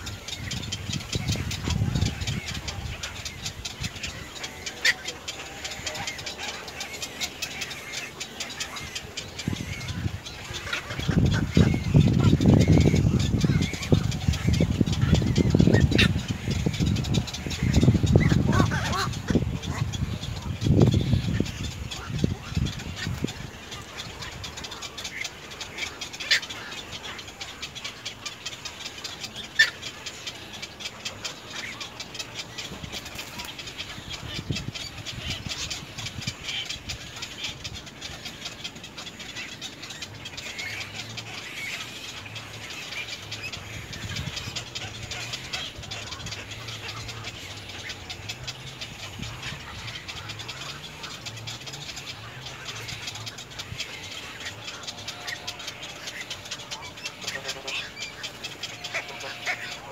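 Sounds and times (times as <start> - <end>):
birds chattering and chirping: 0.0 - 59.9.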